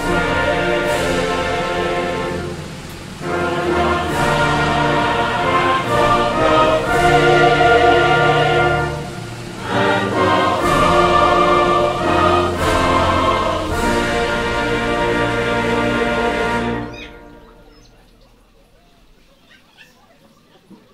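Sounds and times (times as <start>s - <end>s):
choir singing over orchestra: 0.0s - 18.1s.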